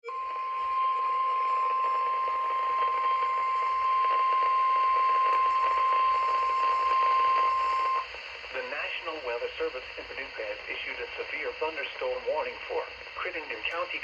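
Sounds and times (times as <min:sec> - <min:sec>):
steady radio alert tone: 0:00.0 - 0:14.0.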